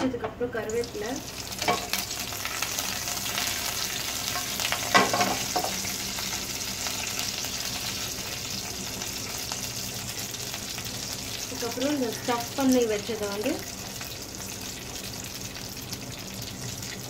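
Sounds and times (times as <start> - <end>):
leaves sizzling in hot oil: 0.6 - 17.0.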